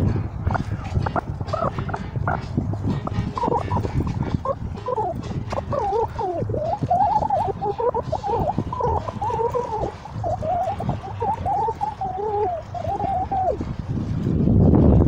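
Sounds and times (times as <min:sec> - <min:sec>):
warbling wavering calls: 0:00.0 - 0:14.0
wind on microphone: 0:00.0 - 0:15.0.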